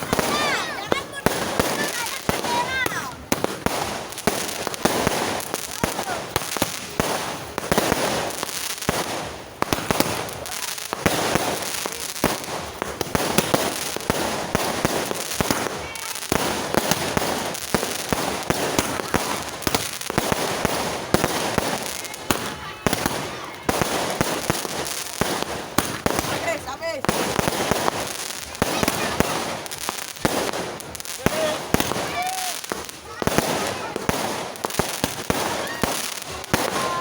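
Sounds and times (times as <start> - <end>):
firecrackers banging and crackling: 0.0 - 37.0.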